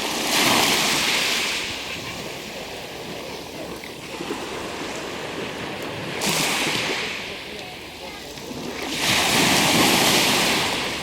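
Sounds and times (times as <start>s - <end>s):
waves washing on shore: 0.0s - 11.0s.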